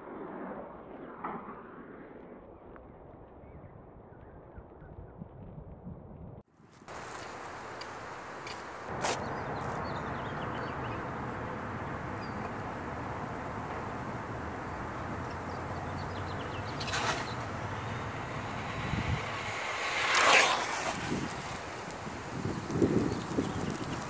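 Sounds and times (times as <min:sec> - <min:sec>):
wind rushing on microphone: 0:02.8 - 0:24.0.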